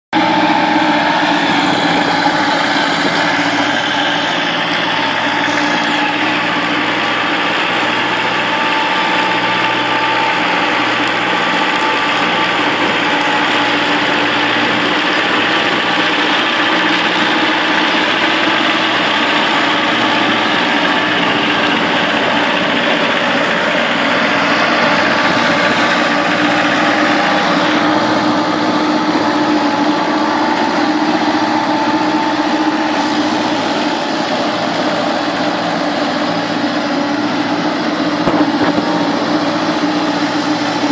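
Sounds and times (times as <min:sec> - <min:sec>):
garden tractor engine running: 0:00.1 - 0:40.9
mower deck cutting grass: 0:00.2 - 0:40.9.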